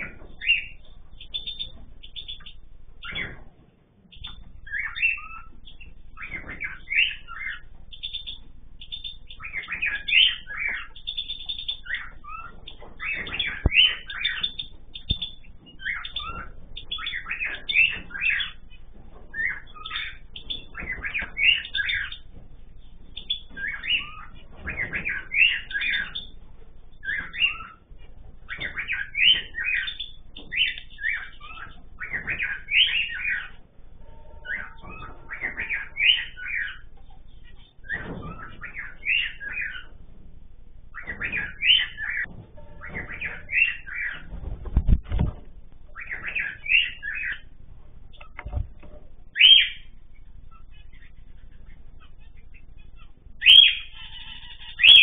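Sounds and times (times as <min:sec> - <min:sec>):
birds chirping and calling: 0:00.0 - 0:55.0.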